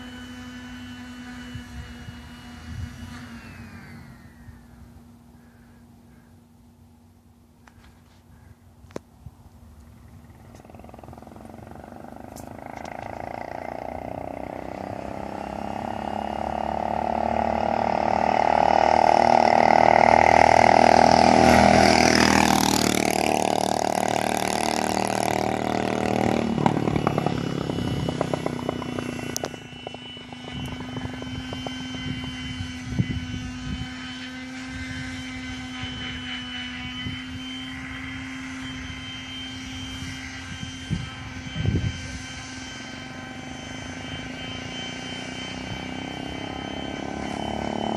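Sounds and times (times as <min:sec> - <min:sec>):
motorized bicycle engine passing: 0:00.0 - 0:08.6, 0:09.7 - 0:47.9
steady engine hum: 0:00.0 - 0:47.9.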